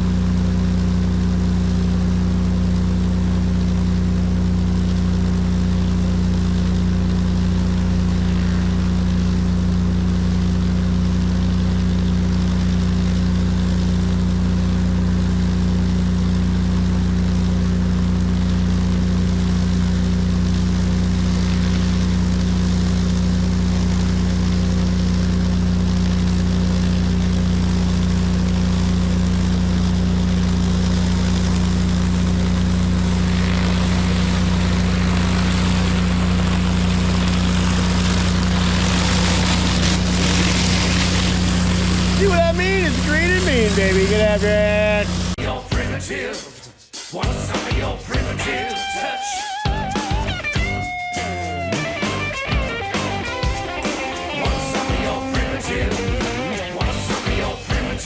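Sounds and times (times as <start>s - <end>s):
pressure washer engine running: 0.0s - 45.4s, 49.7s - 58.0s.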